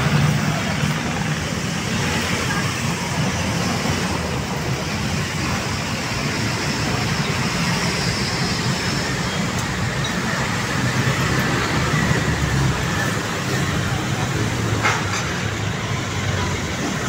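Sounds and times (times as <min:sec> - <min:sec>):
cars and motorcycles passing: 0:00.0 - 0:17.0.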